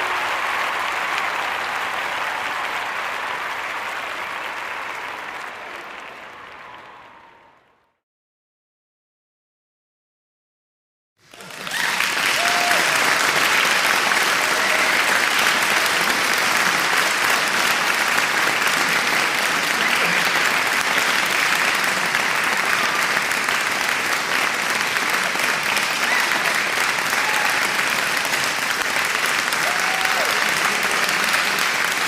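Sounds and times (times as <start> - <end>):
crowd applause: 0.0 - 7.9, 11.2 - 32.0.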